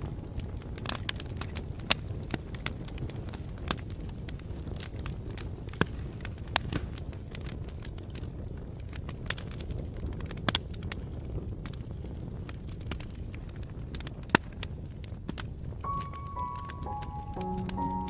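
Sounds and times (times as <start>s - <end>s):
wood fire popping and snapping: 0.0s - 15.8s
low rumble of fire: 0.0s - 15.9s.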